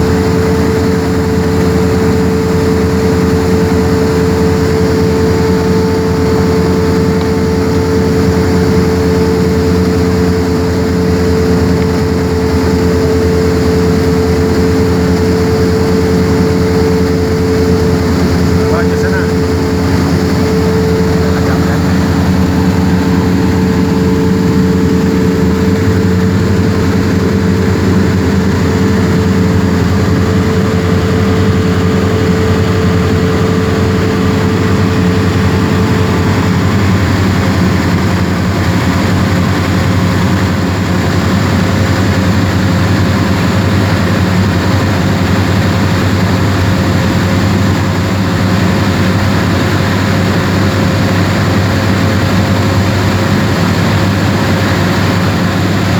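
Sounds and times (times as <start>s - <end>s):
airplane engine droning in cockpit: 0.0s - 55.9s
higher hum: 0.0s - 55.9s.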